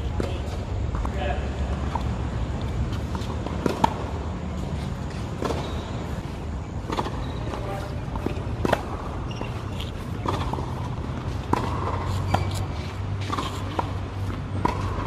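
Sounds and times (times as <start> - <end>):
tennis balls hit by racket: 0.0 - 15.0.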